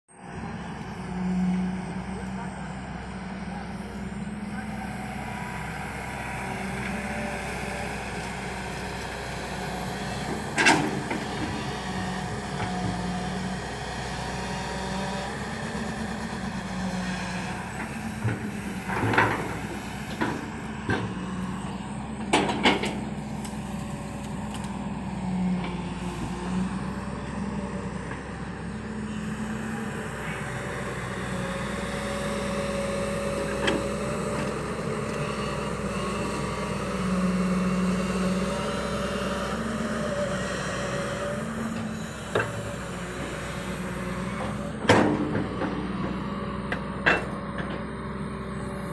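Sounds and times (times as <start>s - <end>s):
excavator diesel engine under load: 0.1s - 48.9s.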